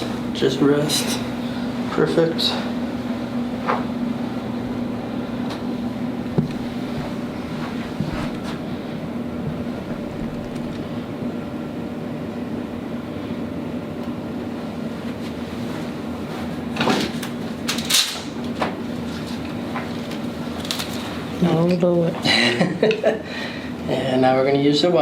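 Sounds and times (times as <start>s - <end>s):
room equipment hum: 0.0s - 25.0s.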